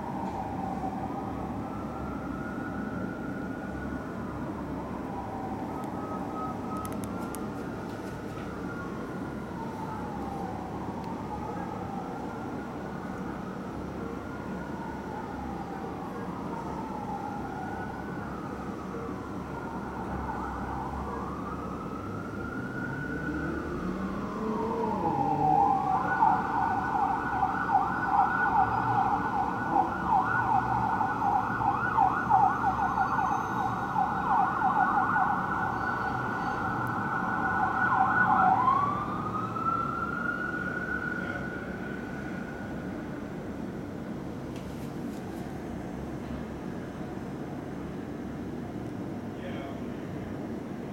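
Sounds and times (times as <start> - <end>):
fire engine siren: 0.0 - 44.4.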